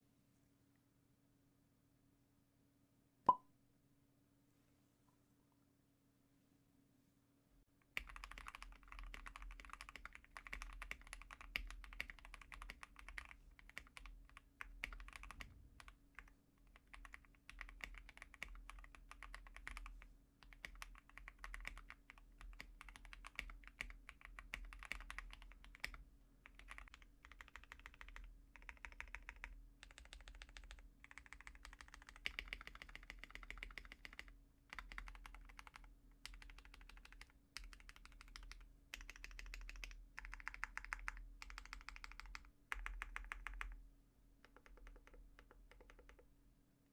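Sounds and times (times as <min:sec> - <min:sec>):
fast typing on mechanical keyboard: 0:07.9 - 0:43.8, 0:44.4 - 0:46.2.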